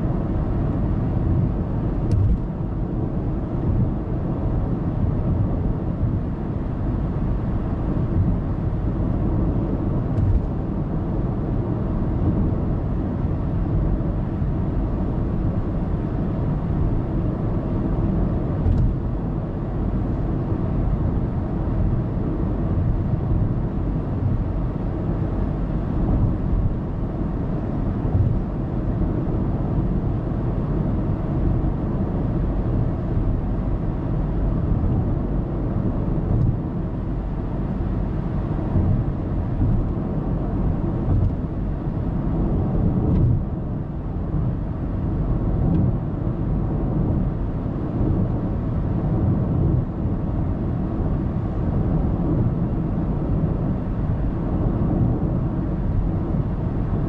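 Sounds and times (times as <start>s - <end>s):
low car engine hum: 0.0s - 57.0s
road and tyre noise: 0.0s - 57.0s.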